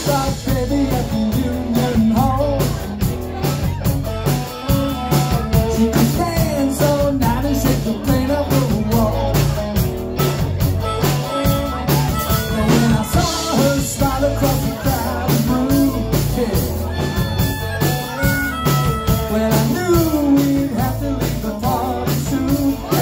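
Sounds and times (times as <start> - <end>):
person singing: 0.0 - 3.4, 4.7 - 10.1, 10.8 - 23.0
bass guitar: 0.0 - 23.0
drum kit beat: 0.0 - 23.0
electric guitar: 0.0 - 23.0.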